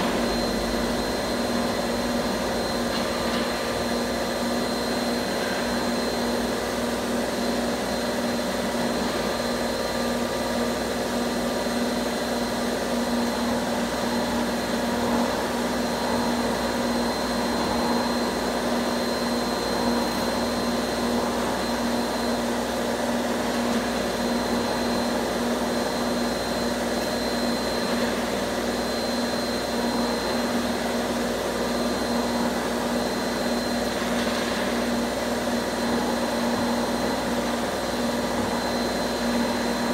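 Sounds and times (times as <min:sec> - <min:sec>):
high steady whine: 0:00.0 - 0:39.9.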